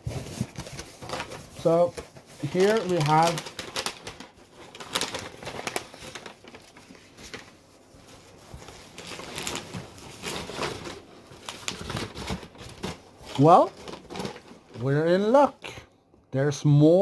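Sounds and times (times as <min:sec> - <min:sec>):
wrapping rustling and crinkling: 0:00.0 - 0:15.9.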